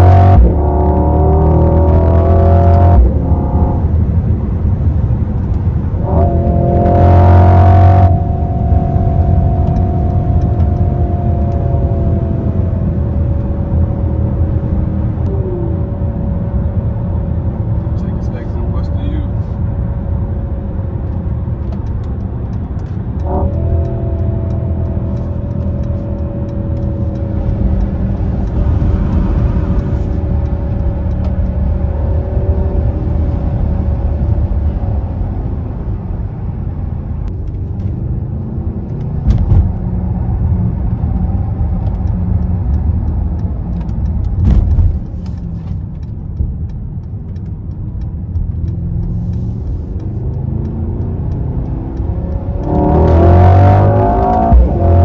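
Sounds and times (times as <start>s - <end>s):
car engine drone in cabin: 0.0s - 55.0s.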